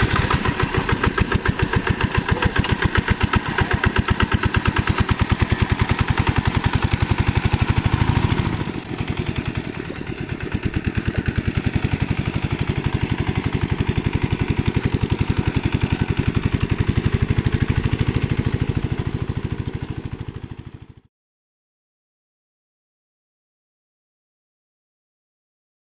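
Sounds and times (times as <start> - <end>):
diesel engine chugging: 0.0 - 21.0.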